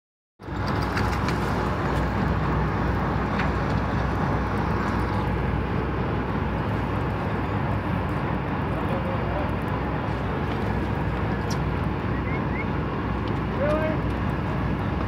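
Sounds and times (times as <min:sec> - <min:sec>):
low rumble of boat engine: 0:00.4 - 0:15.0.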